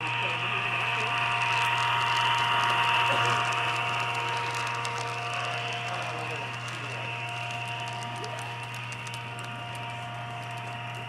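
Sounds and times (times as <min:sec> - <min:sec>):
faint clicking of wheels on track: 0:00.0 - 0:11.0
model train motor hum and whine: 0:00.0 - 0:11.0.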